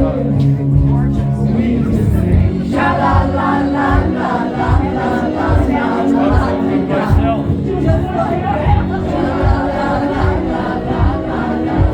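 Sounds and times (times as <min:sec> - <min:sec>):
people singing: 0:00.0 - 0:11.9.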